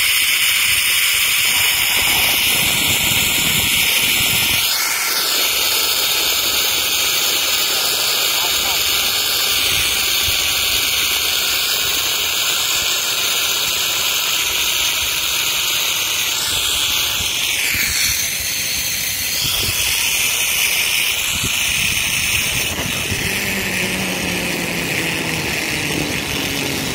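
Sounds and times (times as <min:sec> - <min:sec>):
zipline pulleys whirring on cable: 0:00.0 - 0:26.9.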